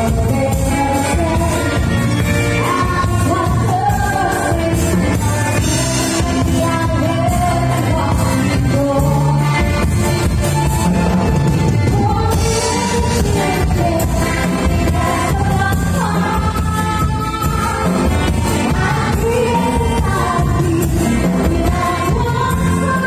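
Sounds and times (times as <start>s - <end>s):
women singing: 0.0s - 10.3s, 11.7s - 23.0s
live band playing disco music: 0.0s - 23.0s.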